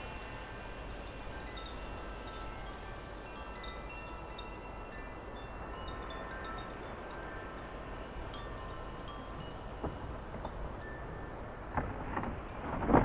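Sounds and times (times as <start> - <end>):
low rumble of wind: 0.0 - 13.0
wind chimes ringing: 0.0 - 13.0.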